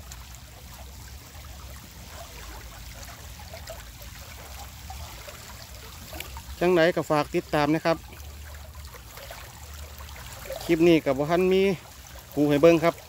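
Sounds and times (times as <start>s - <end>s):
water churning through sluice gate: 0.0s - 13.0s.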